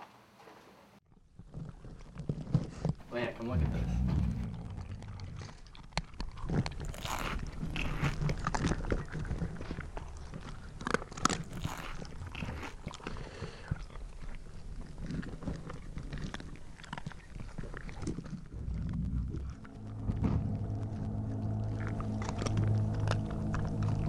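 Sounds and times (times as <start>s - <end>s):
wet chewing and crunching: 1.1s - 3.1s, 4.0s - 24.0s.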